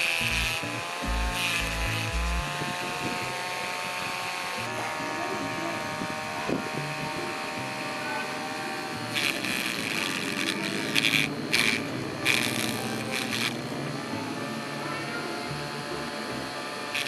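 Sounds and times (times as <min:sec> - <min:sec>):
loud rasping bursts: 0:00.0 - 0:17.0
small electric motor humming: 0:00.0 - 0:17.0.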